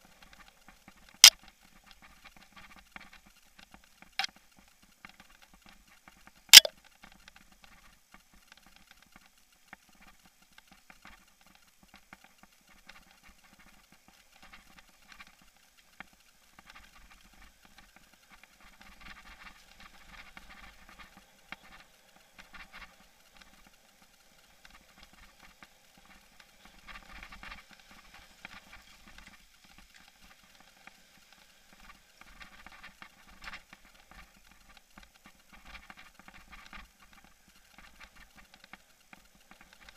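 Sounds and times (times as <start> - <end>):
camera rattling on bumpy trail: 0.0 - 39.9.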